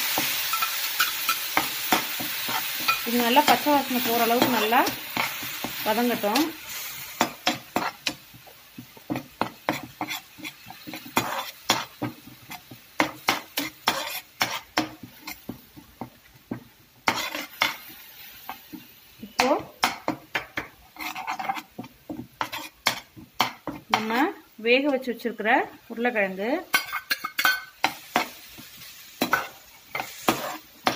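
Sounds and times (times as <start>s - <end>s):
paste sizzling: 0.0s - 30.9s
metal spoon scraping frying pan: 0.1s - 8.4s, 9.0s - 15.6s, 17.0s - 24.4s, 26.7s - 30.9s.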